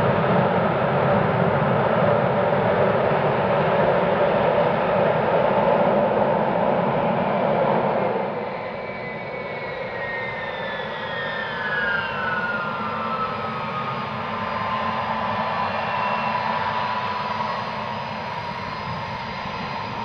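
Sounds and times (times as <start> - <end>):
jet engine whine spooling down: 0.0 - 20.0
jet engines roaring in reverse thrust: 0.0 - 20.0.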